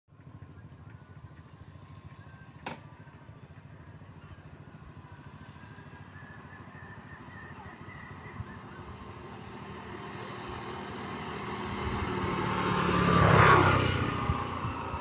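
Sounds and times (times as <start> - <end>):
small engine running: 0.1 - 15.0.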